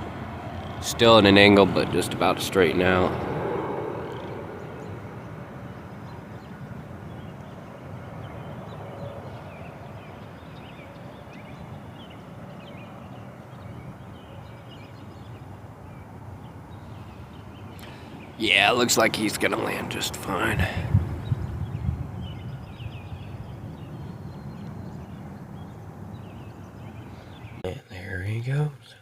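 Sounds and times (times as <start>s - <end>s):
distant airliner rumble: 0.0s - 29.0s.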